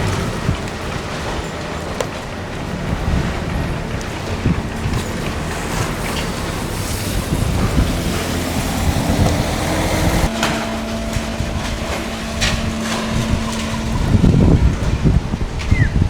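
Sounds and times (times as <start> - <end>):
machinery hum: 0.0 - 16.0
wind on microphone: 0.0 - 16.0.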